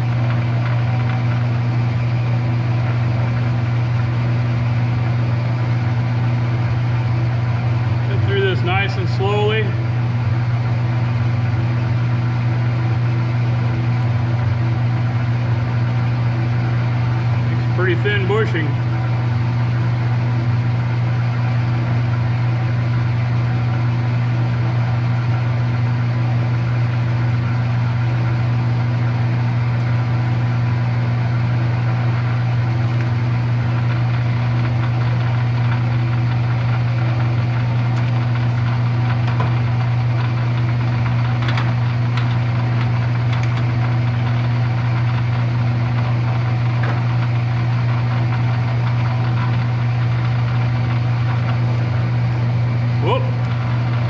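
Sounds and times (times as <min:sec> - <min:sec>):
metal lathe humming: 0:00.0 - 0:54.0.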